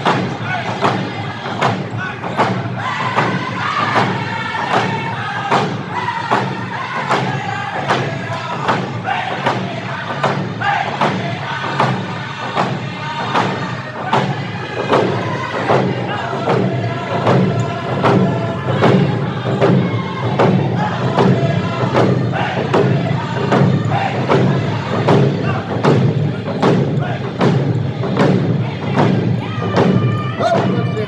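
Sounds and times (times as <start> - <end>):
thudding drum beat: 0.0 - 30.9
crowd noise: 0.0 - 31.0
voices singing: 0.0 - 31.0.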